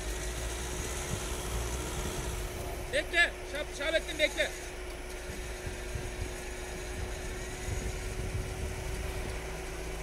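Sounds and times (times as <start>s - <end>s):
truck engine rumbling: 0.0s - 10.0s
steady hum: 0.1s - 10.0s.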